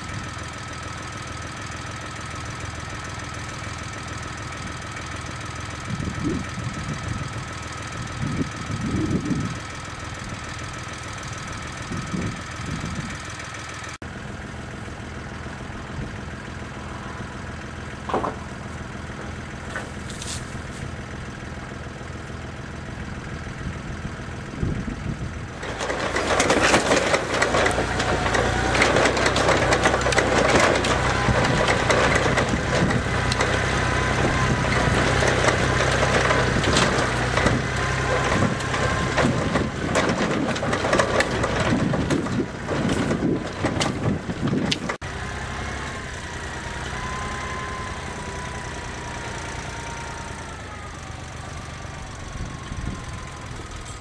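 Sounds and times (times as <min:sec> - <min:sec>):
engine clattering and rattling: 0:00.0 - 0:54.0
falling engine whine: 0:00.0 - 0:54.0
tractor engine running: 0:00.0 - 0:54.0.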